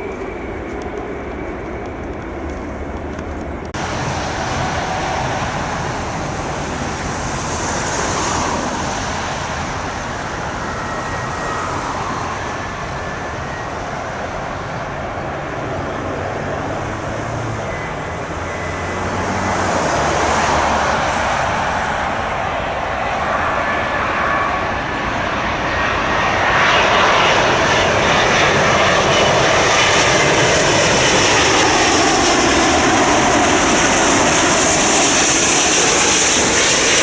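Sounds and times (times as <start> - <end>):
jet airliner engines rushing: 0.0 - 37.0
road traffic: 0.0 - 37.0.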